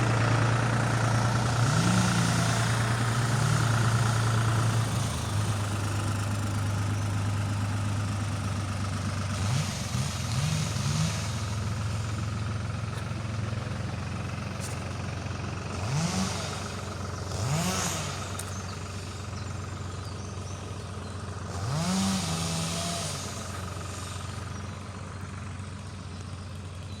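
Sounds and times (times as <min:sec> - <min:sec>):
truck engine revving: 0:00.0 - 0:25.8.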